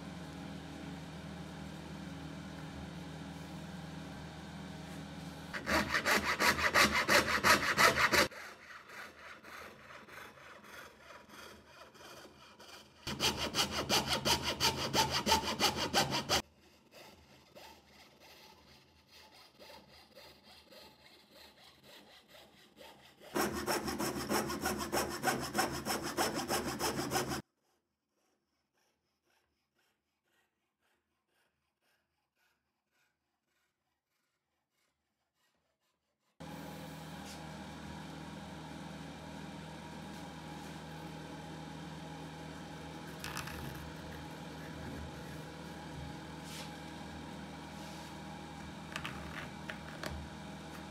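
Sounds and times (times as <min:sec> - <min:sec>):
fret saw cutting plywood: 0:04.8 - 0:27.4, 0:31.9 - 0:50.9.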